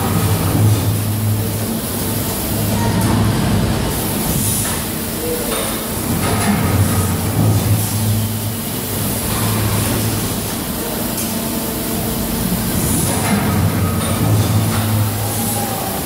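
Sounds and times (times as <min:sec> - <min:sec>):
machine electrical hum: 0:00.0 - 0:16.0.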